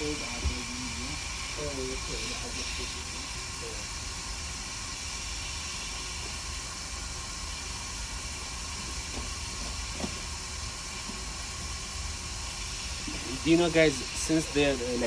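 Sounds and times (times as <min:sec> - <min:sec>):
hiss of blowing air: 0:00.0 - 0:15.0.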